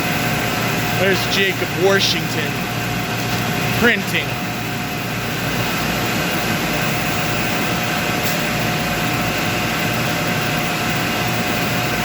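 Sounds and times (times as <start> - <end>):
machinery whirring hum: 0.0 - 12.0.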